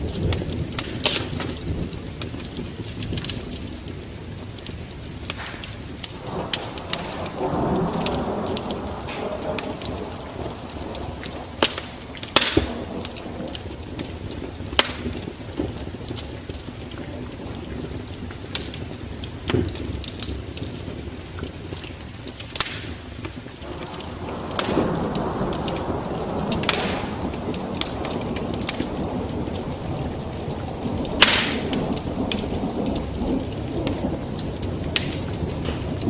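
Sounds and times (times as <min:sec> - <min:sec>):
steady rain-like hiss: 0:00.0 - 0:36.0
wood fire crackling and popping: 0:00.0 - 0:36.0.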